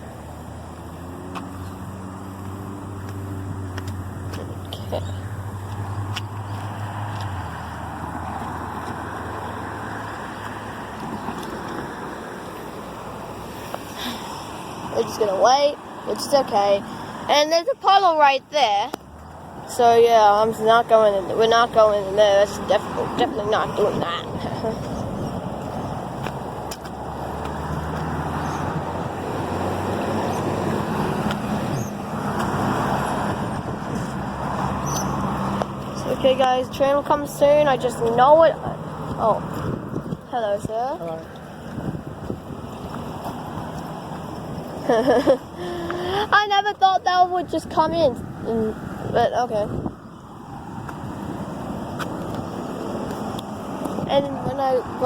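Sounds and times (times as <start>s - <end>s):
traffic rushing: 0.0s - 55.0s
vehicle engine hum: 0.0s - 55.0s.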